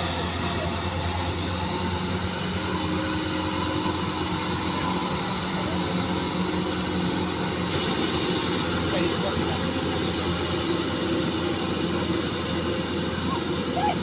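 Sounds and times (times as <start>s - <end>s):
combine harvester engine hum: 0.0s - 14.0s.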